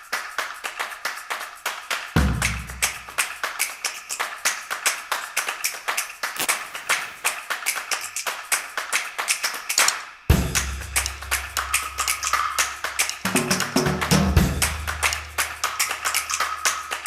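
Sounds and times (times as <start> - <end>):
fast clap-like beat: 0.0 - 17.0.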